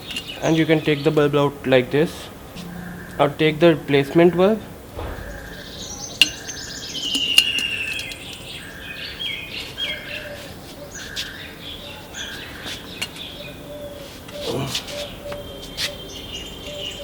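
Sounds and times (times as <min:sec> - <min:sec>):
birds chirping and calling: 0:02.4 - 0:17.0.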